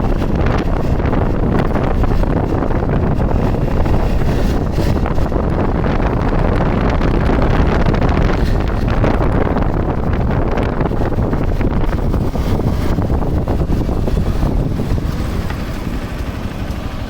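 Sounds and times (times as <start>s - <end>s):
motorcycle engine at top speed: 0.0s - 17.0s
wind buffeting microphone: 0.0s - 17.0s.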